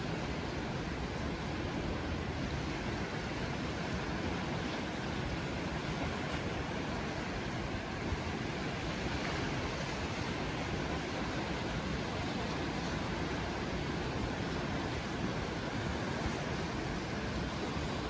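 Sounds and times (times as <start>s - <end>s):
surf: 0.0s - 18.0s.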